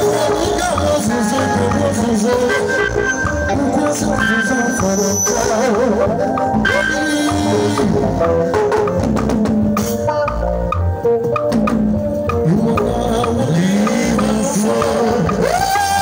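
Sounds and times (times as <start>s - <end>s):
drums and percussion beat: 0.0s - 16.0s
live band music: 0.0s - 16.0s.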